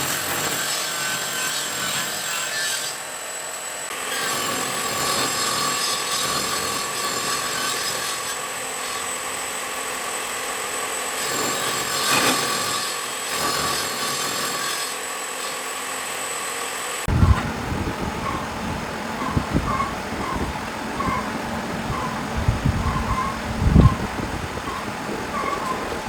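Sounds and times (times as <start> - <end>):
power tool whining on wood: 0.0 - 26.0.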